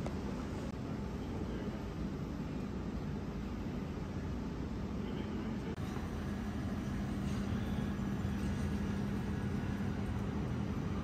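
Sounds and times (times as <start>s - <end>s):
vending machines humming: 0.0s - 11.0s.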